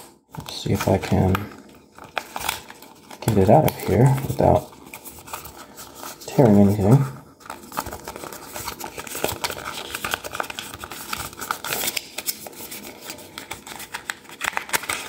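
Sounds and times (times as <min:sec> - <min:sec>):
cardboard crinkling and scraping: 0:00.0 - 0:15.0.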